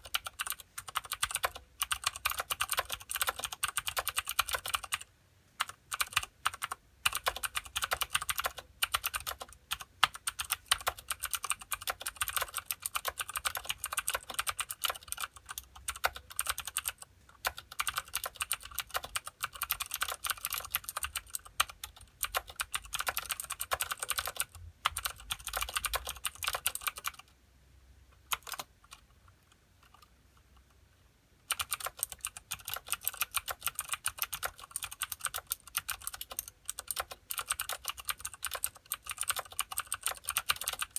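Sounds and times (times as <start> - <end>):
mechanical keyboard typing clicks: 0.0 - 27.3, 28.2 - 29.0, 31.5 - 40.9.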